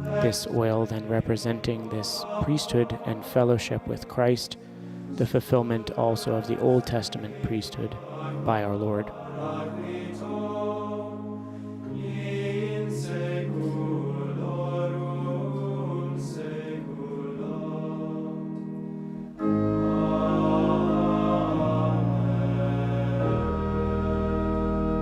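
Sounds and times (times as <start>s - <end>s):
choir singing a hymn: 0.0s - 25.0s
organ: 0.0s - 25.0s.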